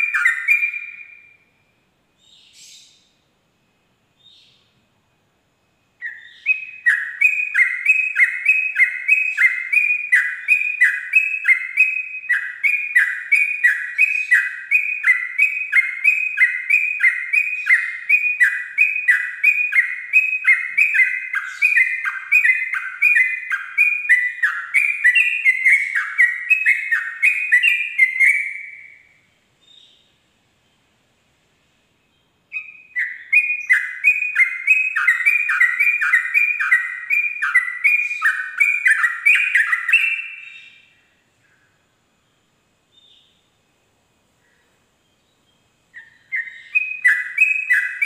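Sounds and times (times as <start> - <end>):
bird singing repeated notes: 0.0 - 3.2, 5.8 - 30.1, 32.0 - 43.6, 44.5 - 48.0.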